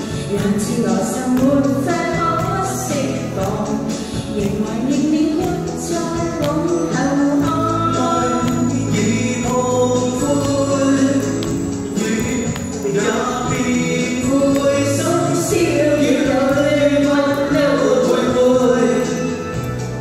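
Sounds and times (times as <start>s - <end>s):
people singing into microphones: 0.0s - 19.7s
musical accompaniment: 0.0s - 20.0s.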